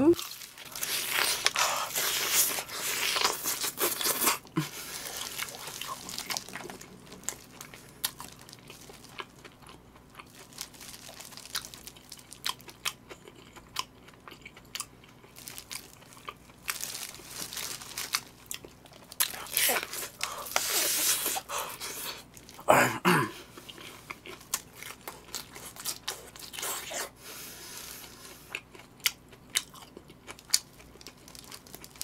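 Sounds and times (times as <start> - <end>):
crunching fried chicken: 0.2 - 22.7, 23.4 - 27.3, 27.9 - 32.0
person chewing: 0.2 - 32.0.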